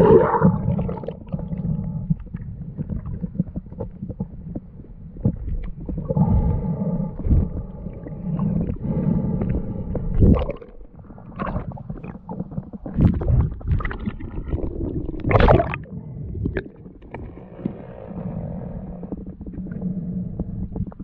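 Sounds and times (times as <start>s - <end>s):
low underwater rumble: 0.0s - 21.0s
water sloshing and gurgling: 0.0s - 21.0s.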